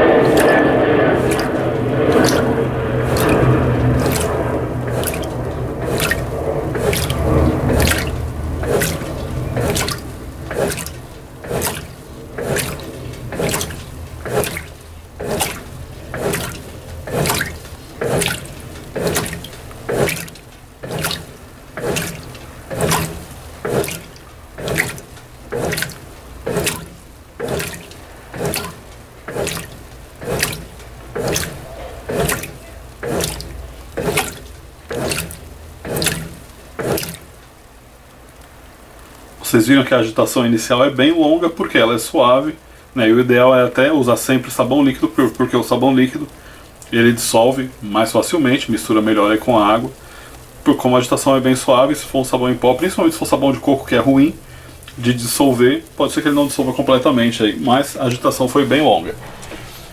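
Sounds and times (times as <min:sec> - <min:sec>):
washing machine water sloshing: 0:00.0 - 0:59.9.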